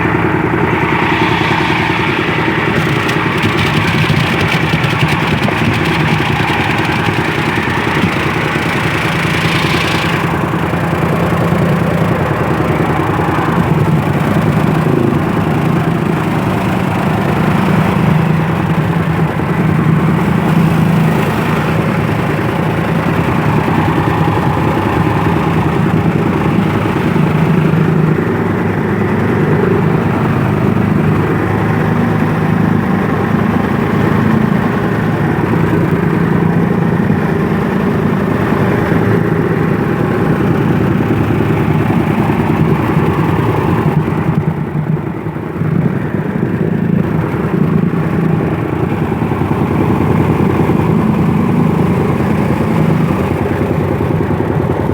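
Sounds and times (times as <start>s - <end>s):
machine engine running: 0.0s - 54.9s.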